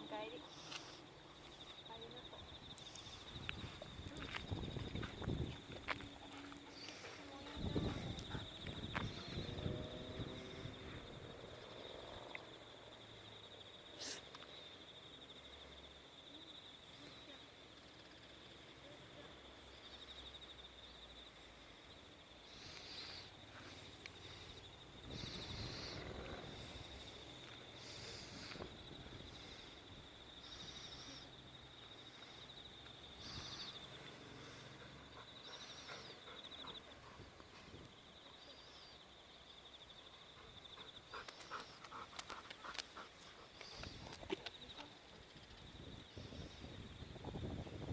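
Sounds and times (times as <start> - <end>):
cricket trilling: 0.0 - 47.9.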